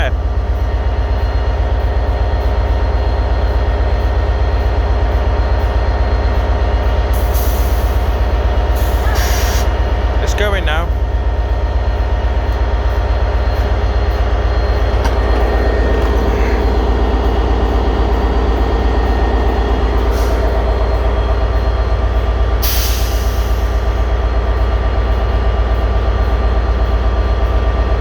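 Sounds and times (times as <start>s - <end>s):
diesel train engine droning: 0.0s - 28.0s.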